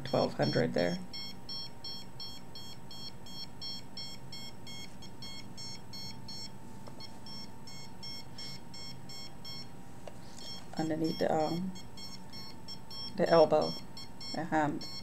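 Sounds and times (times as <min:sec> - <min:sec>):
meter beeping: 0:00.0 - 0:09.7, 0:10.3 - 0:15.0.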